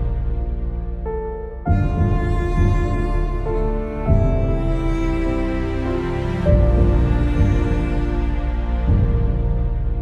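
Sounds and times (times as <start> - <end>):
dark tense soundtrack music: 0.0 - 10.0.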